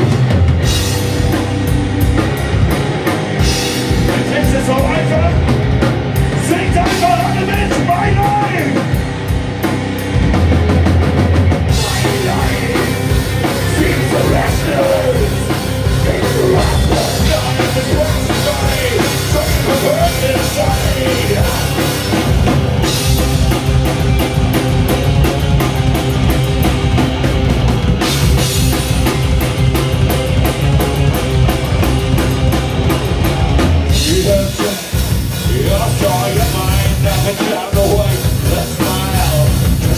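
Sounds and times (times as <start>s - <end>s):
lead guitar bending: 0.0s - 39.9s
live hard rock band: 0.0s - 39.9s.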